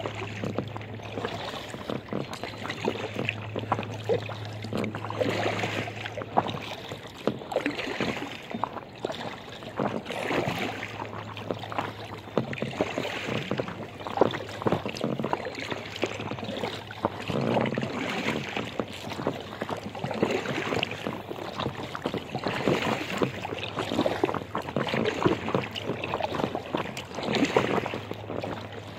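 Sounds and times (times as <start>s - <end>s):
paddle strokes in water: 0.0s - 28.9s
water splashing around kayak: 0.0s - 28.9s.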